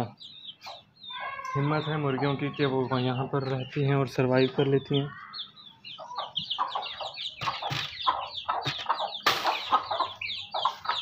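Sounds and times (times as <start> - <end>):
chicks peeping: 0.0 - 11.0
hens clucking: 0.0 - 11.0.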